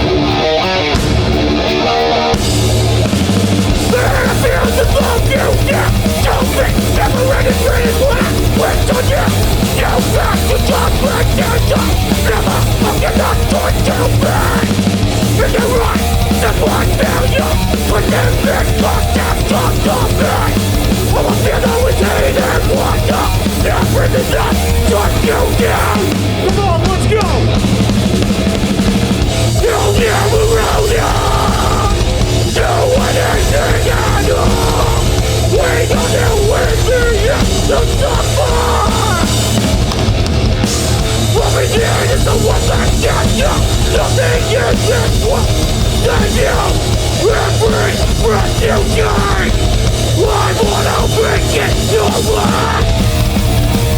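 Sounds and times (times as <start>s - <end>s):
bass guitar: 0.0s - 53.9s
distorted guitars: 0.0s - 53.9s
drums: 0.0s - 53.9s
shouted vocals: 3.7s - 27.8s, 29.4s - 39.8s, 40.9s - 53.1s.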